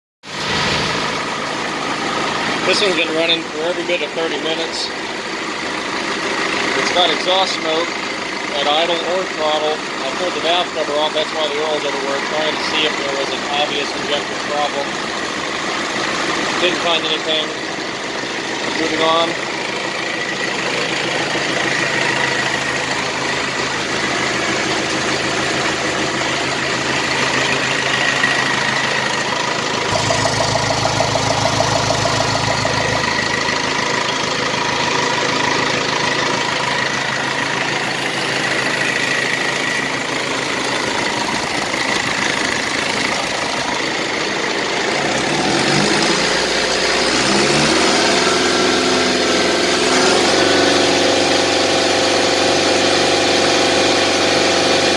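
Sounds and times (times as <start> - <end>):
diesel engine idling and revving: 0.2 - 54.9.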